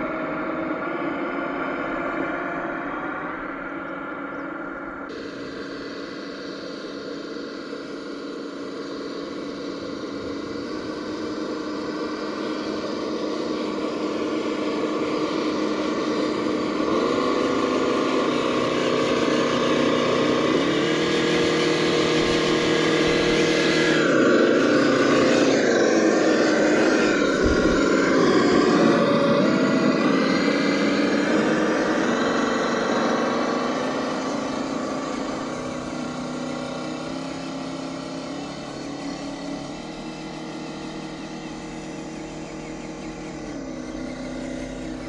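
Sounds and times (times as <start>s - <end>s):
simulated engine sound revving: 0.0s - 45.0s.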